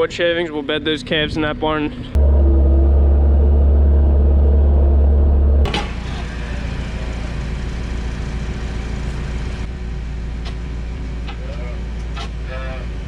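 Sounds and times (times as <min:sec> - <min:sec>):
loader engine running: 0:02.1 - 0:13.0.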